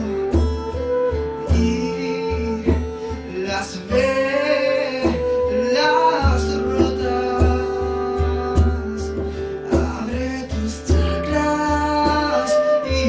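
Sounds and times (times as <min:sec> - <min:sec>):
person singing: 0:00.0 - 0:13.0
plucked guitar: 0:00.0 - 0:13.0.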